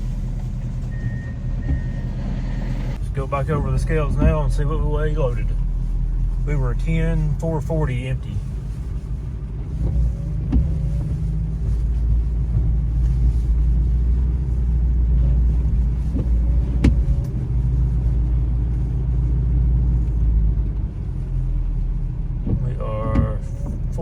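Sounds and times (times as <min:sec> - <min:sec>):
pickup truck engine rumble: 0:00.0 - 0:24.0.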